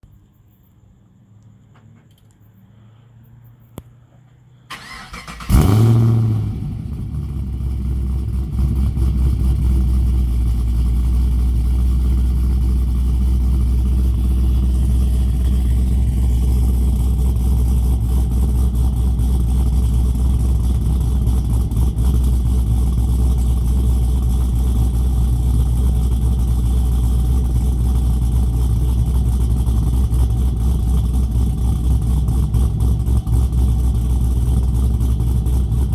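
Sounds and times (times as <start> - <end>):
car engine starting and idling: 4.7 - 35.9.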